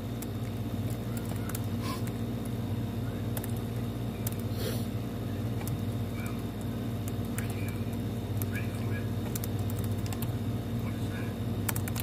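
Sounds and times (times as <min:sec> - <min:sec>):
room fan humming: 0:00.0 - 0:12.0.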